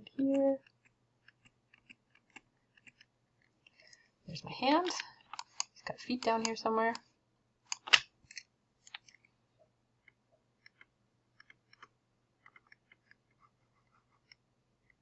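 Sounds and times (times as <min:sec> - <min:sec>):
computer mouse clicks: 0:00.1 - 0:04.1, 0:04.8 - 0:07.0, 0:07.7 - 0:09.3, 0:10.0 - 0:15.0.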